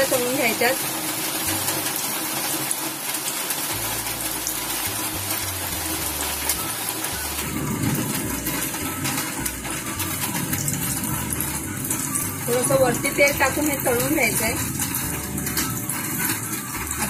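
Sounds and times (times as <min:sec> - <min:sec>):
food sizzling in hot oil: 0:00.0 - 0:17.0
heavy rain: 0:00.0 - 0:17.0.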